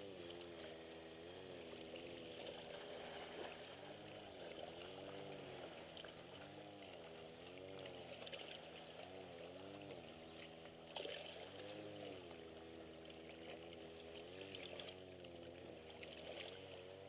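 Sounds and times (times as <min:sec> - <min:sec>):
small waves lapping against rocks: 0:00.0 - 0:17.0.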